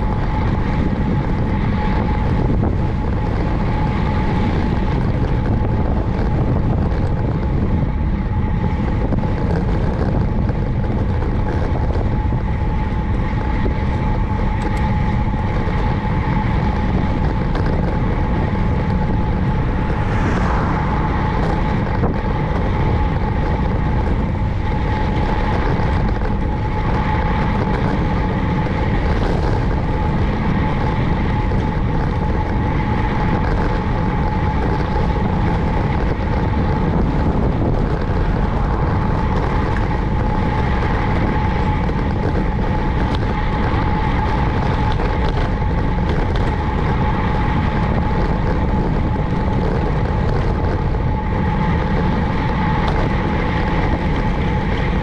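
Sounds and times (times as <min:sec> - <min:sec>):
thin steady whine: 0:00.0 - 0:55.0
wind buffeting microphone: 0:00.0 - 0:55.0.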